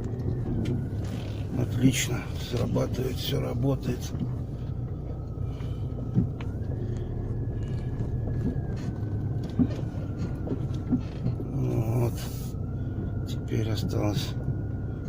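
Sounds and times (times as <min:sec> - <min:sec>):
car engine drone: 0:00.0 - 0:15.0
car jolting over bumps: 0:00.0 - 0:15.0.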